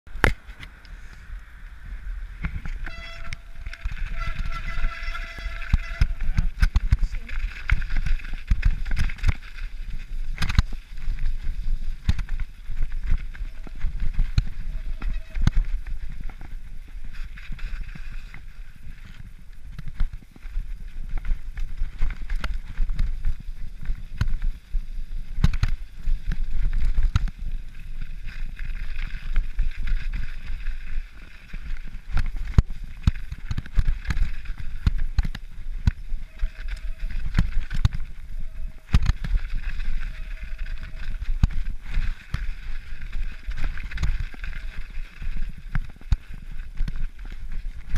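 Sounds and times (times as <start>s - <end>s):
wind rumbling on microphone: 0.1s - 47.9s
bike rattling and knocking: 2.4s - 47.9s
tyres hissing through snow and mud: 3.5s - 47.9s.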